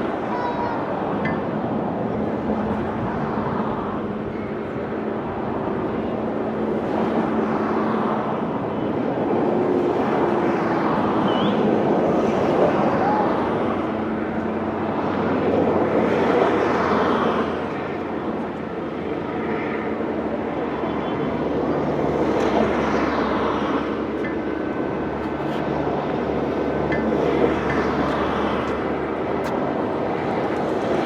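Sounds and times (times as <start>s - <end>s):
aircraft droning overhead: 0.0s - 31.0s
vehicles passing: 0.0s - 31.0s.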